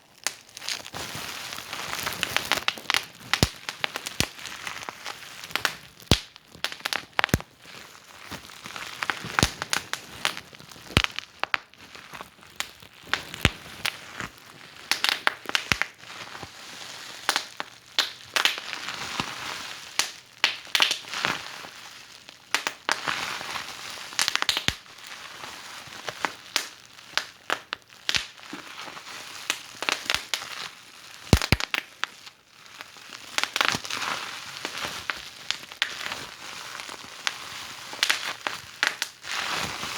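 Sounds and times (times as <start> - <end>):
fireplace fire crackling: 0.1 - 21.3, 22.4 - 23.1, 24.0 - 25.3, 26.0 - 32.1, 34.6 - 39.9.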